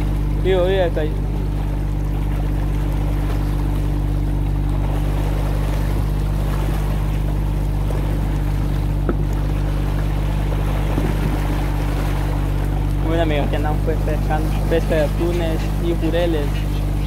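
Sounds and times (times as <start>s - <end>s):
boat engine humming: 0.0s - 17.0s
water rushing along hull: 0.0s - 17.0s.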